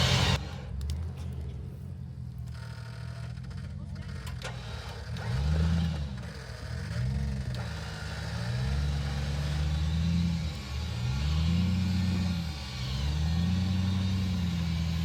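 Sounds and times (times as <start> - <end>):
off-road vehicle engine revving: 0.0 - 1.6, 2.2 - 15.0.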